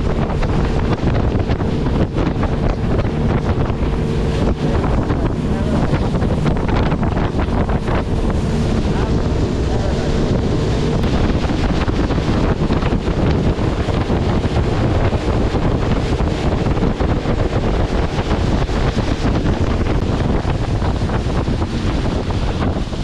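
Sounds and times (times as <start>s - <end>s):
water rushing along hull: 0.0s - 23.0s
wind buffeting microphone: 0.0s - 23.0s.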